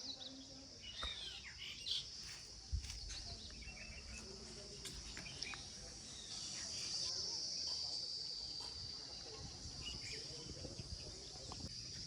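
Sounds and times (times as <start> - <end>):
high-pitched insects droning: 0.0 - 12.0.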